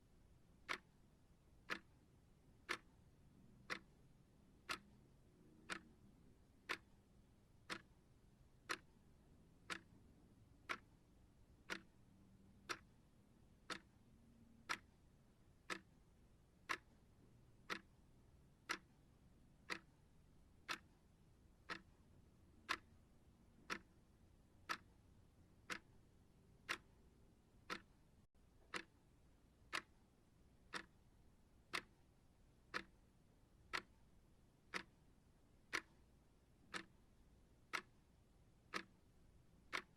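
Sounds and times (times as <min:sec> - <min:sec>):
clock ticking: 0:00.4 - 0:39.9.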